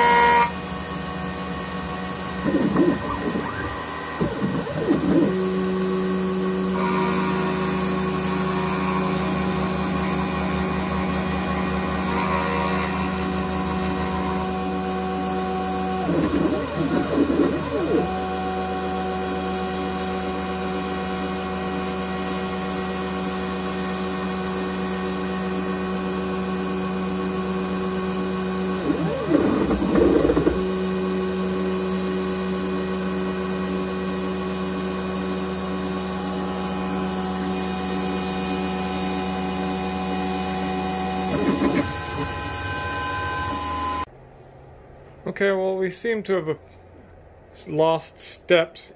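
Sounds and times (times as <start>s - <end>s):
milling machine whine: 0.0s - 44.1s.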